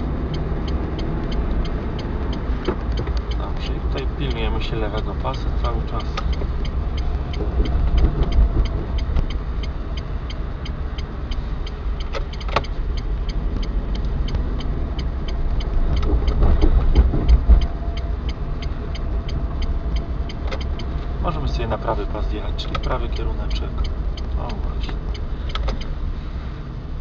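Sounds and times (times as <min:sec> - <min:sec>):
steady light ticking: 0:00.0 - 0:26.0
car engine and tyre noise: 0:00.0 - 0:27.0.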